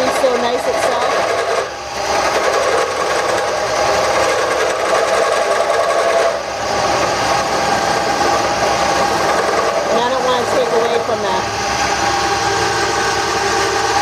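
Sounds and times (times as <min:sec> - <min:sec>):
wood lathe cutting: 0:00.0 - 0:14.0.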